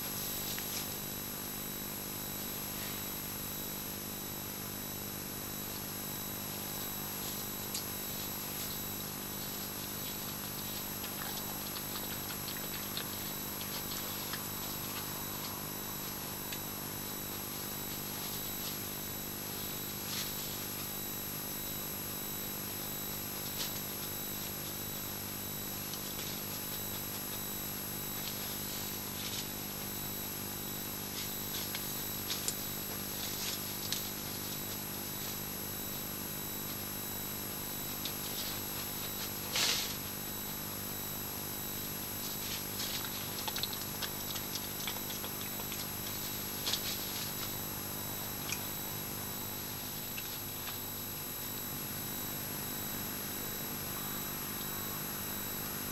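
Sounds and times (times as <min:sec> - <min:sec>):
faint ticks and rustles: 0:00.0 - 0:03.6, 0:05.6 - 0:51.5
electrical hum and high whine: 0:00.0 - 0:55.9.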